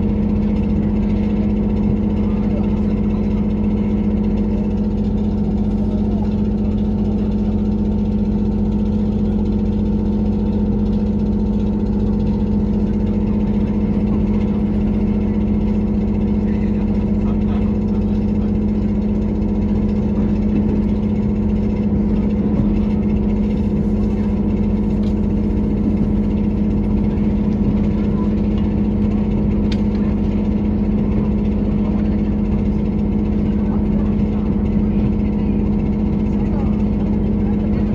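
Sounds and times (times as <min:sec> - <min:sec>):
diesel railcar engine droning: 0:00.0 - 0:37.9.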